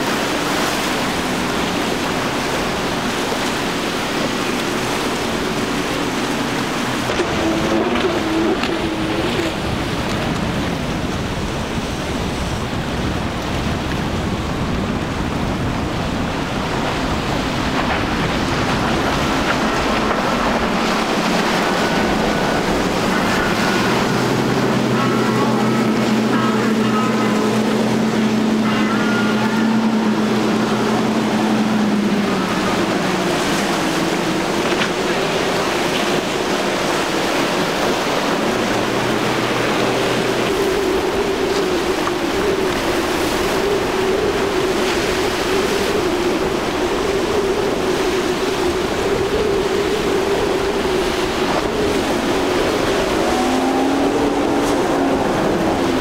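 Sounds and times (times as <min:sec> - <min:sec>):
boat engine drone: 0:00.0 - 0:56.0
water spray and churning: 0:00.0 - 0:56.0
wind on microphone: 0:00.0 - 0:56.0.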